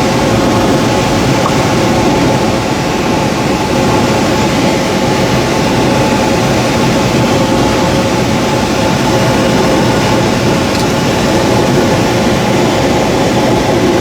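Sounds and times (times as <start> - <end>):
rushing airflow in cockpit: 0.0 - 14.0.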